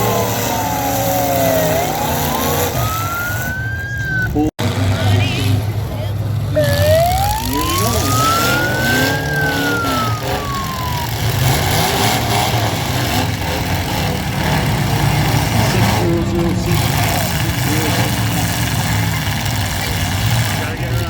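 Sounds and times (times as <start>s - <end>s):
siren wailing: 0.0s - 4.5s, 6.6s - 20.0s
car engines revving: 0.0s - 21.0s.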